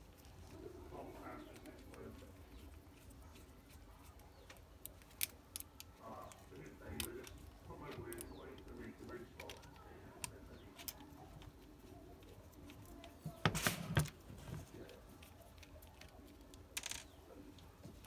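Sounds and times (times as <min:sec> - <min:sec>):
light plastic clicks and rustles: 0:00.0 - 0:18.0.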